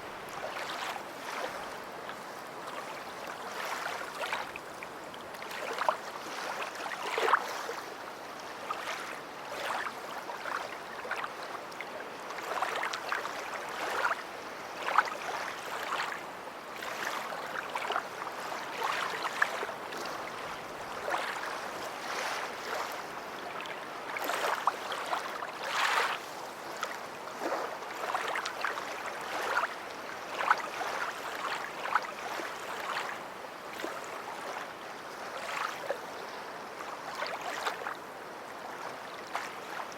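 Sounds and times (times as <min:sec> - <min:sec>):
small water splashes: 0:00.0 - 0:07.9, 0:08.6 - 0:16.2, 0:16.8 - 0:34.6, 0:35.2 - 0:36.0, 0:36.8 - 0:38.0, 0:38.6 - 0:39.9.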